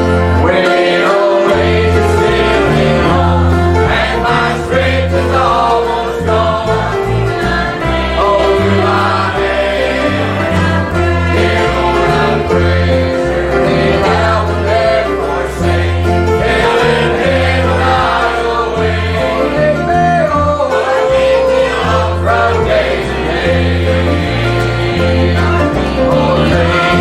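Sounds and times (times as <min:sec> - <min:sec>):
choir singing gospel: 0:00.0 - 0:27.0
bass line: 0:01.5 - 0:27.0.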